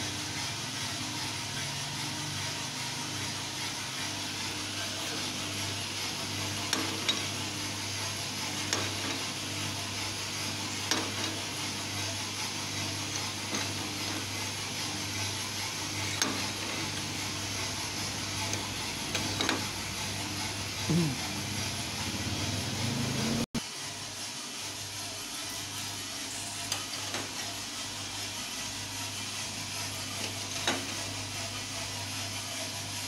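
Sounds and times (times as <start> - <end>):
coffee roaster humming: 0.0 - 33.0.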